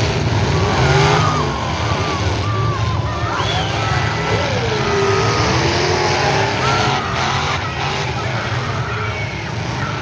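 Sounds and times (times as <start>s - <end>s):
truck engines running loud: 0.0s - 10.0s
people shouting: 0.5s - 10.0s.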